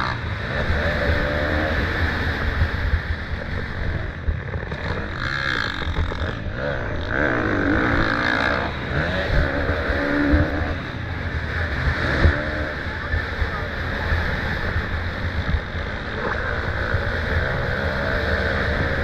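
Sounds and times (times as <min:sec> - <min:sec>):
motocross bikes revving: 0:00.0 - 0:19.0
wind rumble on microphone: 0:00.0 - 0:19.0.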